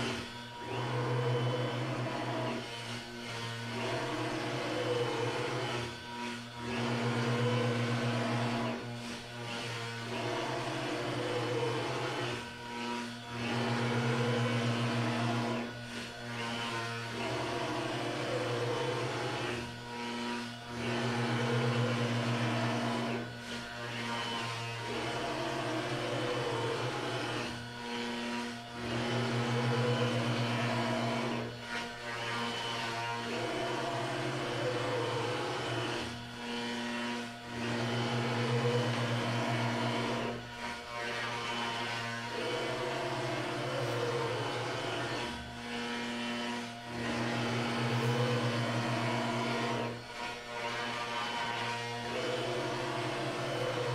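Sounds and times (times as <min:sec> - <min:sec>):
cnc router spindle whine: 0:00.0 - 0:53.9.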